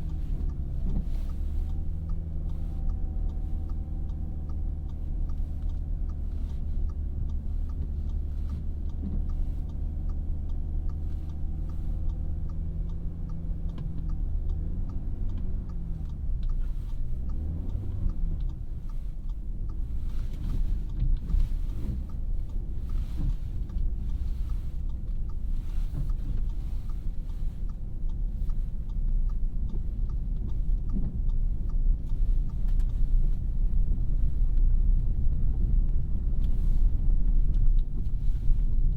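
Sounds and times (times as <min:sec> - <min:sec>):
car engine idling: 0:00.0 - 0:38.9
road and tyre rumble: 0:00.0 - 0:38.9
turn signal ticking: 0:00.0 - 0:38.9.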